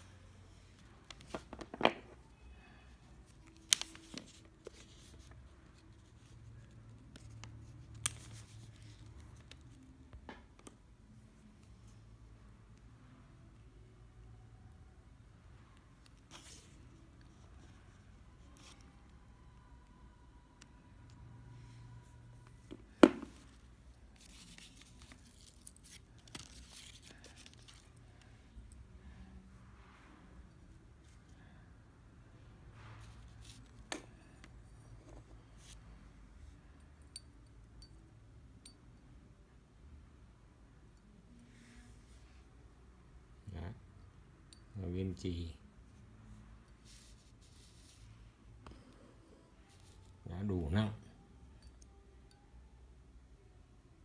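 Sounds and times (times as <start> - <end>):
soft handling sounds: 0.0 - 14.4, 15.4 - 39.0, 40.8 - 52.5.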